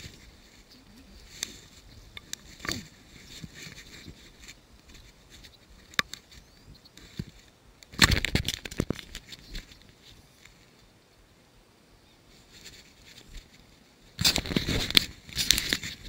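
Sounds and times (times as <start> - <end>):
handling rustling and clicks: 0.0 - 10.9, 12.4 - 16.0.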